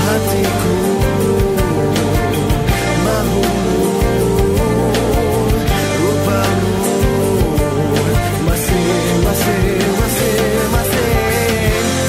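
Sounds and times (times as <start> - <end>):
pop love song: 0.0 - 12.0.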